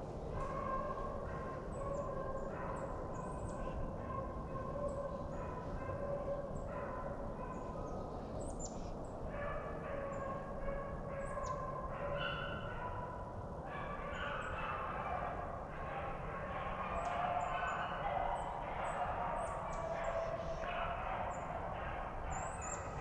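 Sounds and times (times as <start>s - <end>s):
hounds baying: 0.3s - 7.9s, 9.3s - 23.0s.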